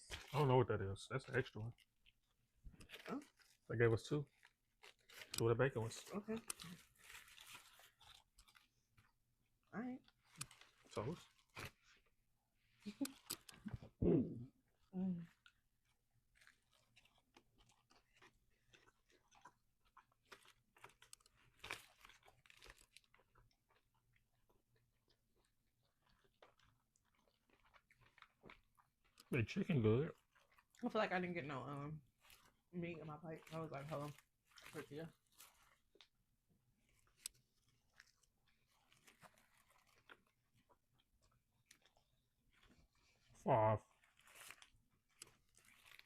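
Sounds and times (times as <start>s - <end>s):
chewing and crunching food: 0.0s - 46.0s.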